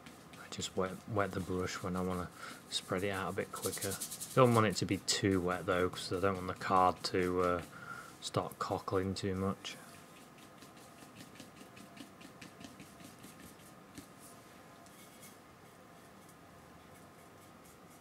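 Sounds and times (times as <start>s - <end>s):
paintbrush scrubbing on card: 0.0s - 15.4s, 16.0s - 18.0s.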